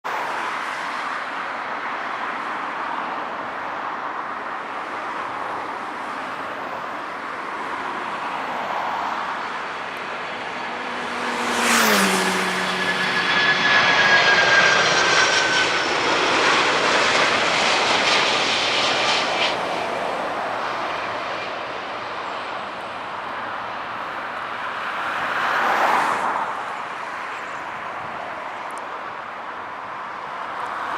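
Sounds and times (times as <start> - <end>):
jet airliner passing overhead: 0.1 - 30.9.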